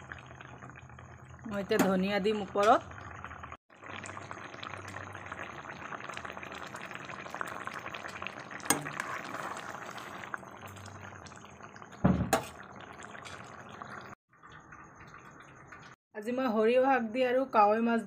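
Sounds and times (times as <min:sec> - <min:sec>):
curry bubbling at a boil: 0:00.0 - 0:16.0.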